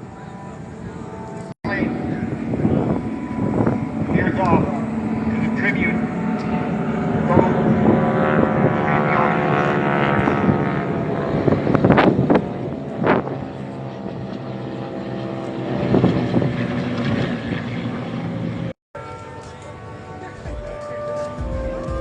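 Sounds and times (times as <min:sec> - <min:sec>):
propeller airplanes droning: 0:00.0 - 0:22.0.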